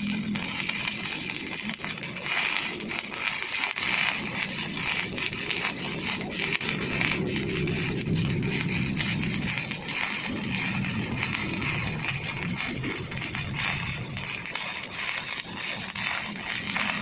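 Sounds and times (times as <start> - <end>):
welding arc crackling and hissing: 0.0 - 17.0.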